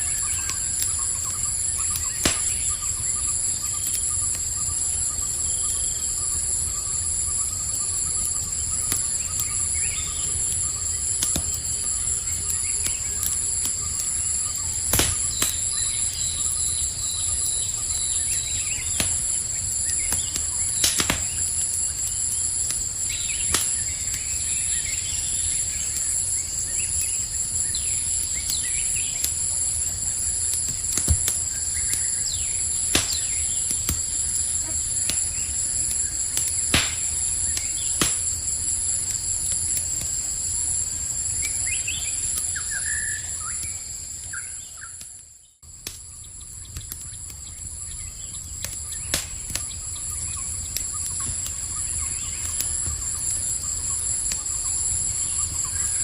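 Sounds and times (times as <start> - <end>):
campfire crackling and popping: 0.0 - 56.0
crickets chirping: 0.0 - 56.0.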